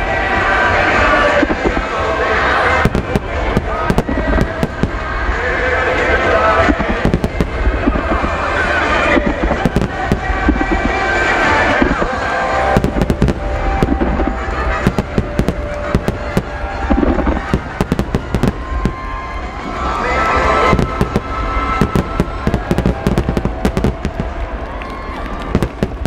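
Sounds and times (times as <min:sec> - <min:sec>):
fireworks bursting: 0:00.0 - 0:26.0
music playing: 0:00.0 - 0:26.0.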